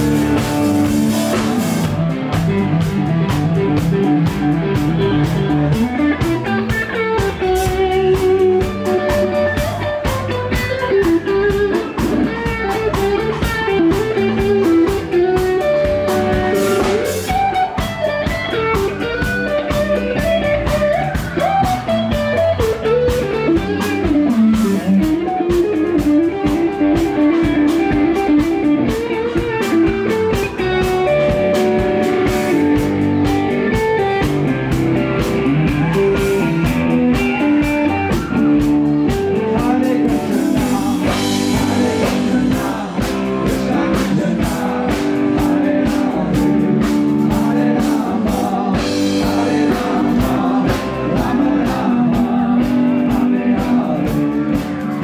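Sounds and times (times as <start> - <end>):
drum kit beat: 0.0 - 55.0
electric guitar: 0.0 - 55.0
keyboards: 0.0 - 55.0.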